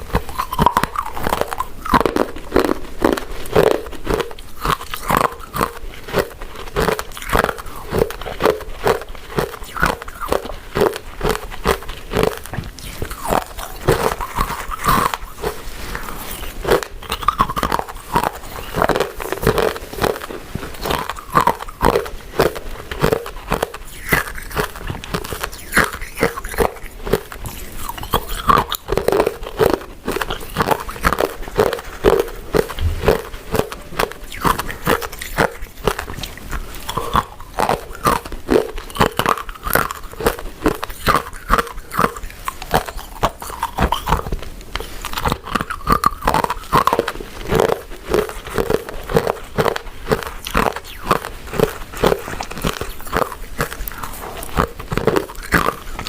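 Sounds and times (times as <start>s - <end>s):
chewing sticky food: 0.0s - 56.0s.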